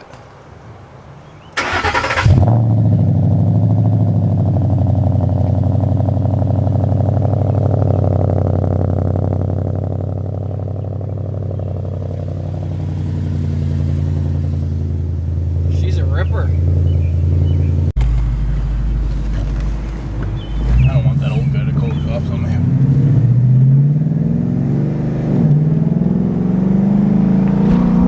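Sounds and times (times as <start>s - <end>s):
car engine deep rumble: 0.0s - 28.0s
car engine starting: 1.3s - 28.0s.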